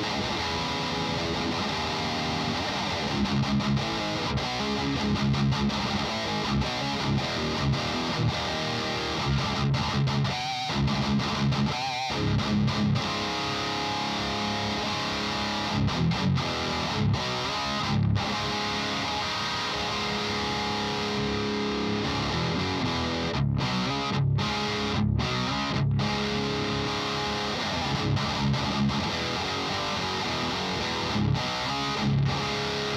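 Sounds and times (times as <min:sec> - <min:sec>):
distorted electric guitar riffs: 0:00.0 - 0:32.9.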